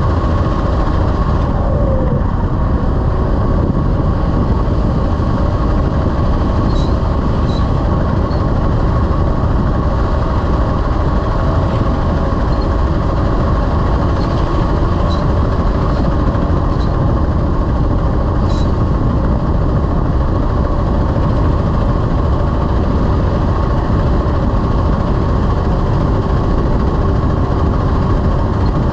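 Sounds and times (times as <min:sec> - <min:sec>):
road rumble: 0:00.0 - 0:28.9
truck engine drone: 0:00.0 - 0:28.9.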